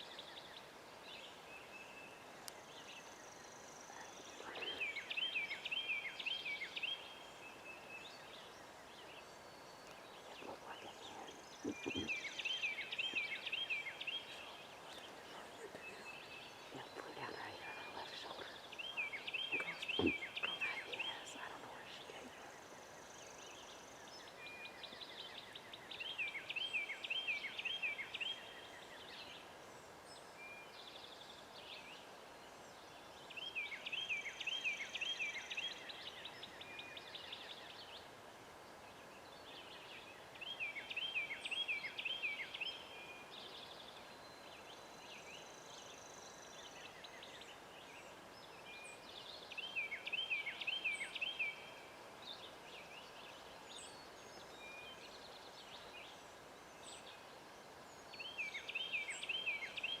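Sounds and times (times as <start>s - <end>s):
songbird singing: 0.0s - 60.0s
woodland background noise: 0.0s - 60.0s.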